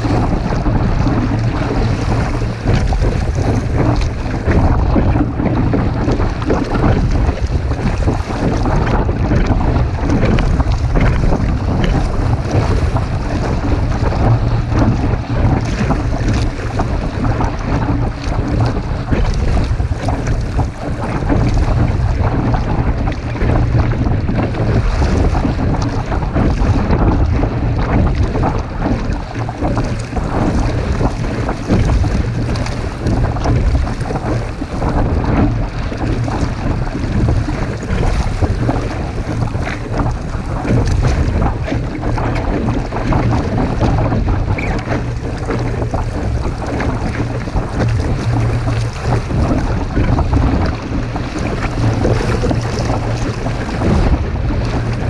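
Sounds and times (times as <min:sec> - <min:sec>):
water washing along hull: 0:00.0 - 0:55.0
wind buffeting microphone: 0:00.0 - 0:55.0.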